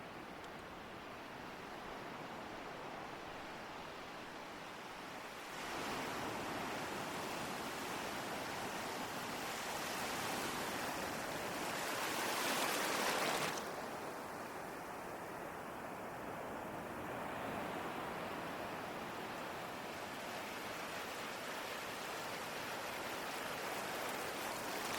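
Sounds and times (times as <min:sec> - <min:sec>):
ocean waves surf: 0:01.9 - 0:24.9.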